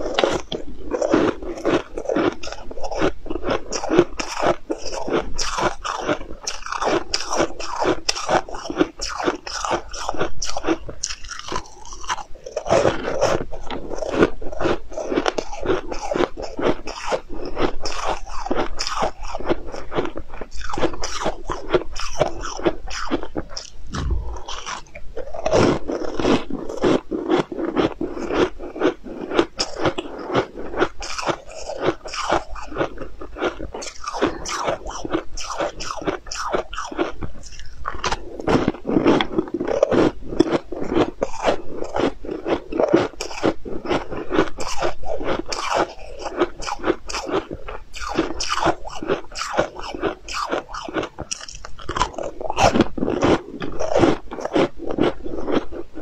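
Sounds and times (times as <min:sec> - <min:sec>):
crunching crispy cookies: 0:00.0 - 0:56.0.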